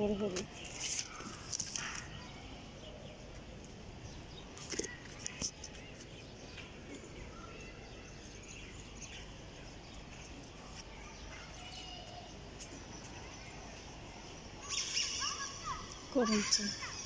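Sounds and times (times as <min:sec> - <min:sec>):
faint bird chirps: 0:00.0 - 0:17.0
outdoor background noise: 0:00.0 - 0:17.0.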